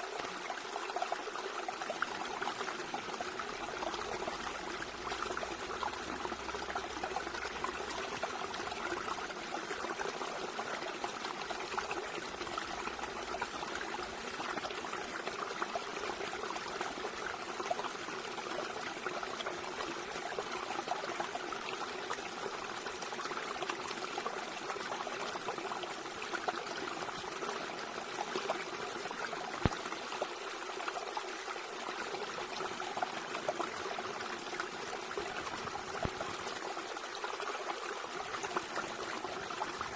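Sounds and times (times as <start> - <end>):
water trickling: 0.2 - 39.9.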